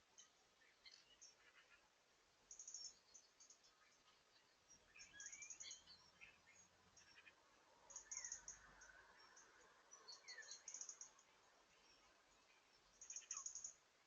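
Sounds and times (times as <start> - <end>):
low hiss: 0.0 - 14.0
small birds chirping: 0.0 - 14.0.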